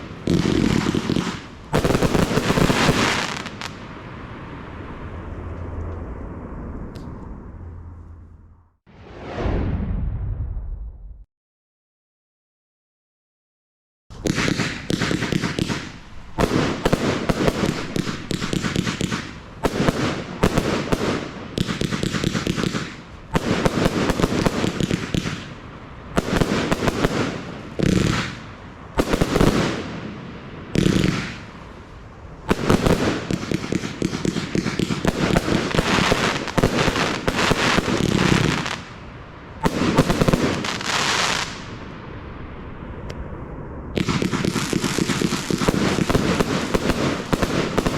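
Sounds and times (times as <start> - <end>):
firework cake volleys and crackling: 0.0 - 6.4, 14.1 - 47.9.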